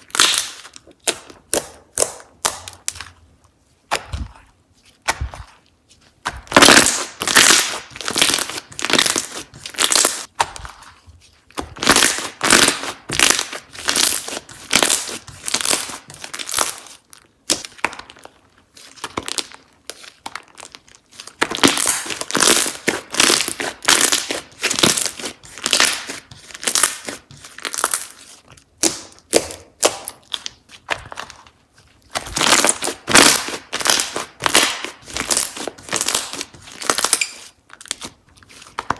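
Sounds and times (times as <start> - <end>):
slime crackling and popping: 0.0 - 3.0, 6.3 - 10.5, 11.6 - 31.3, 32.1 - 38.2.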